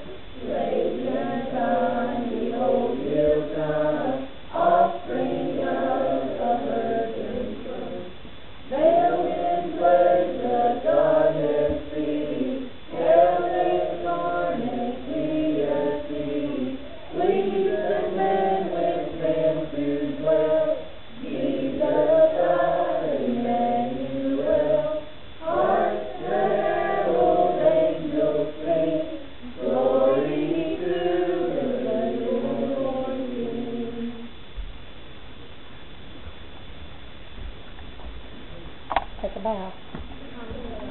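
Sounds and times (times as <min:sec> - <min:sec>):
children's choir singing: 0:00.0 - 0:34.3.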